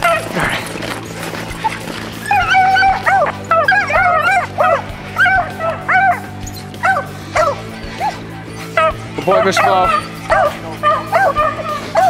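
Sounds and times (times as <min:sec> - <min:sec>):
hounds baying and yelping: 0:00.0 - 0:12.0.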